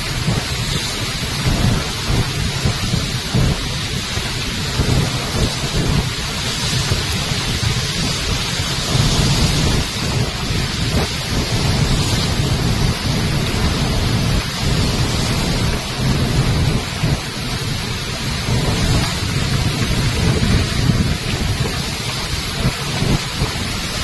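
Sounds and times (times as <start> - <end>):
deep steady rumble: 0.0 - 24.0
floodwater rushing over boulders: 0.0 - 24.0.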